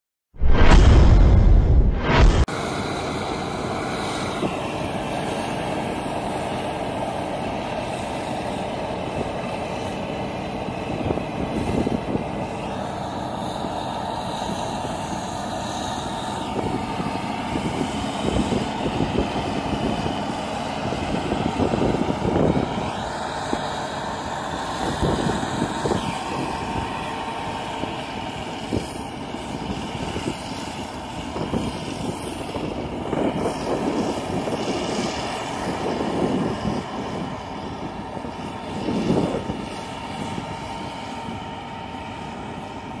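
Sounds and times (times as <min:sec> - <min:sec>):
combine harvester drone: 0:00.4 - 0:43.0.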